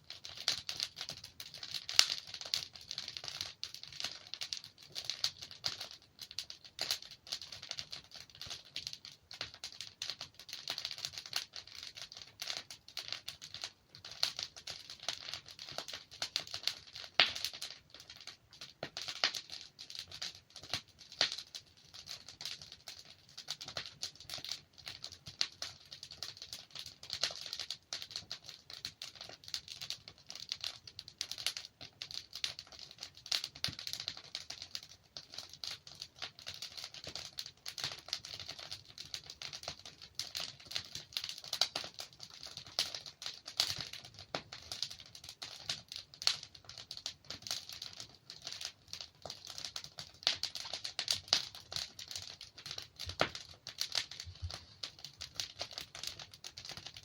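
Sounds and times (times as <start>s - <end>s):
burning logs popping: 0.0s - 57.0s
wood fire crackling: 0.0s - 57.0s.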